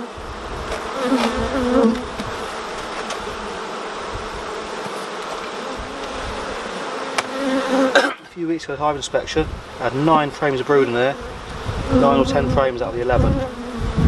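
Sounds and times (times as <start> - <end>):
louder wavering bee buzz: 0.0 - 8.1, 9.4 - 14.0
honeybees buzzing: 0.0 - 14.0.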